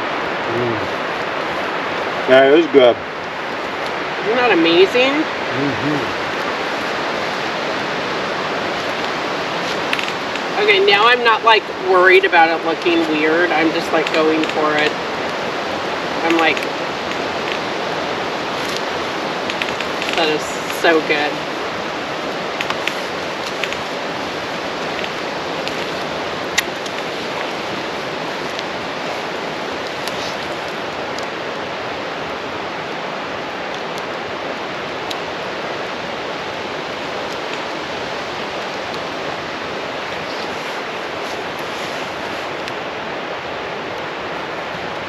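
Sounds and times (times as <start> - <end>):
campfire hissing and crackling: 0.0 - 45.0.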